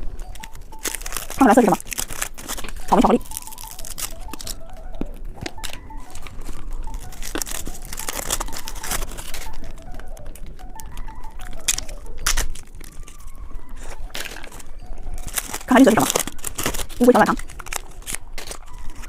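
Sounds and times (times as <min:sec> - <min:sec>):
candy eating crackles: 0:00.0 - 0:19.0
wrapper crinkling and tearing: 0:00.0 - 0:19.0.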